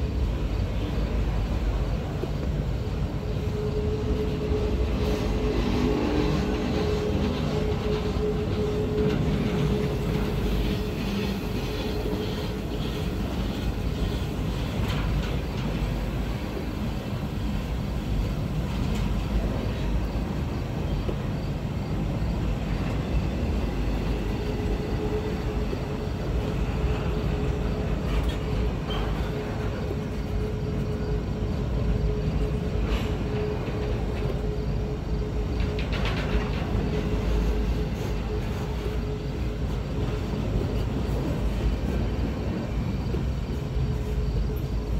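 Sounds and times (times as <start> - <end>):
freight train rolling rumble: 0.0 - 44.9
thin whine from train wheels: 0.0 - 44.9.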